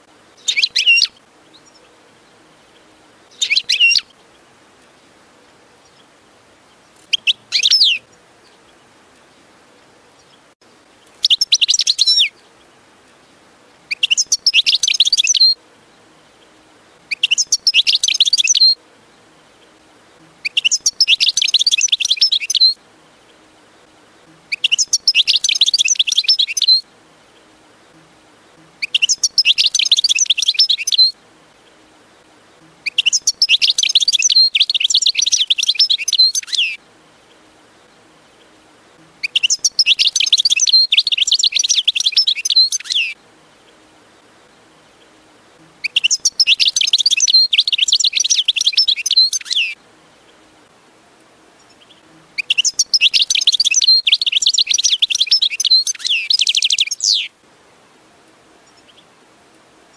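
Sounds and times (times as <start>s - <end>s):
goldfinch twittering song: 0.3s - 5.2s, 5.8s - 50.4s, 51.6s - 57.3s.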